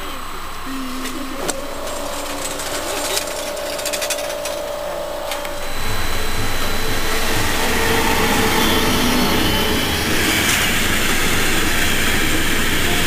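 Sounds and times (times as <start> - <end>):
barrier motor whining: 0.0 - 13.0
electric locomotive hum and rush: 0.0 - 13.0.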